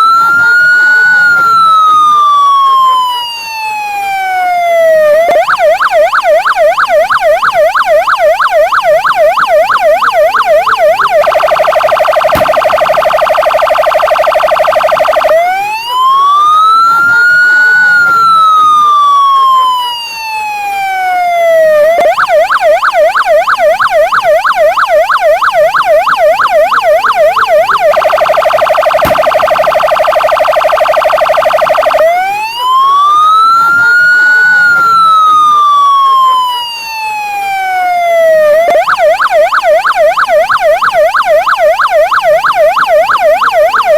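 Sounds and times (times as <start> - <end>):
police car electronic siren: 0.0 - 43.9.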